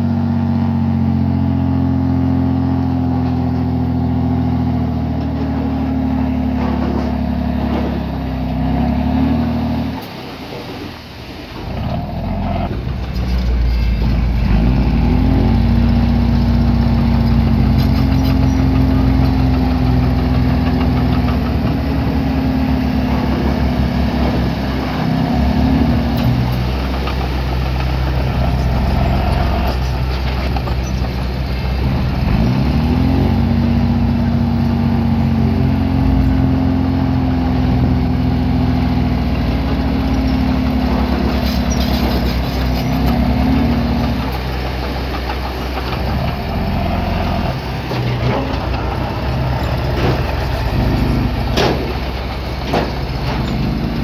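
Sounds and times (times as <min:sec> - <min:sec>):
bulldozer diesel engine revving: 0:00.0 - 0:10.6, 0:11.6 - 0:54.0.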